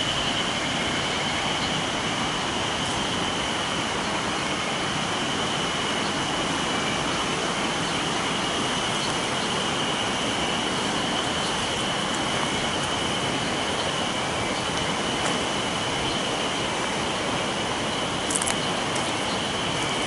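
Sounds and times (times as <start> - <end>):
high-pitched insect drone: 0.0 - 20.0
river rushing: 0.0 - 20.0.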